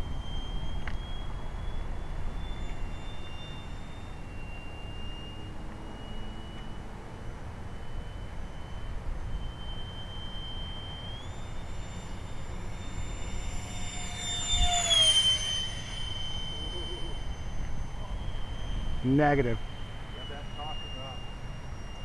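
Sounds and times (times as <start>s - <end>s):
electric model jet whine: 0.0s - 22.0s.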